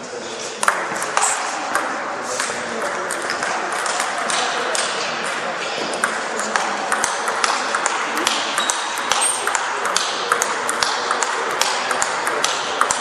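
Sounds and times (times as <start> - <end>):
hall background noise: 0.0 - 13.0
table tennis balls clicking: 1.8 - 13.0.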